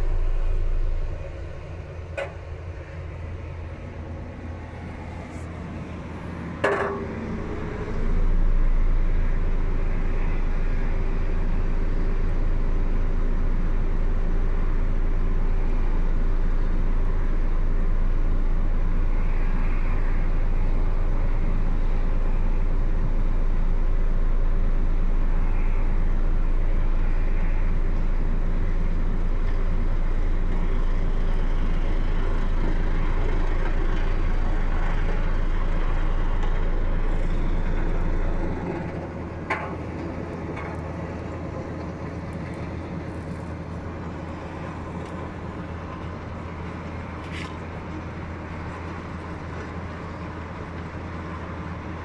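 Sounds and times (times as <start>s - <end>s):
deep vibration hum: 0.0s - 49.5s
diesel engine running: 0.0s - 52.0s.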